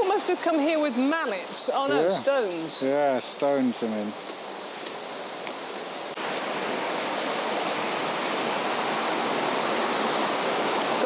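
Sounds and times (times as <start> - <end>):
stream water rushing over rocks: 0.0 - 11.0.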